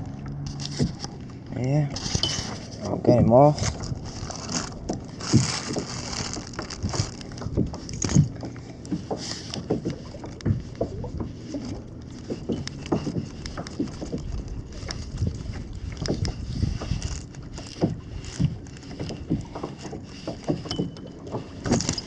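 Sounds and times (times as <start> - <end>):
hands handling fish and lure: 0.0 - 22.0.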